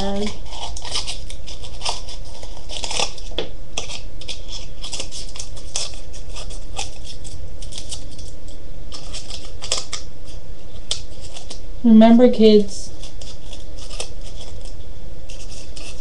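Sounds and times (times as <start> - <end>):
scissors snipping paper: 0.0 - 10.1, 10.8 - 11.6, 12.9 - 16.0.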